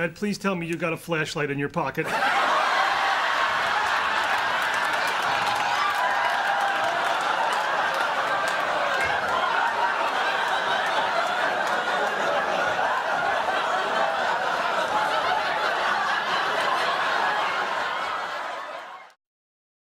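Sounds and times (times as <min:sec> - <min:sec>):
audience laughing: 0:02.0 - 0:19.2.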